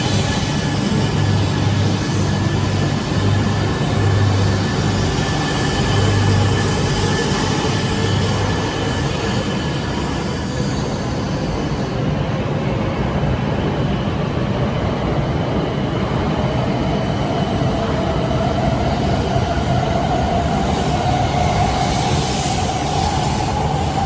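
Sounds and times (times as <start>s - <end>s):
train rumble: 0.0s - 24.0s
train whine: 0.0s - 24.0s.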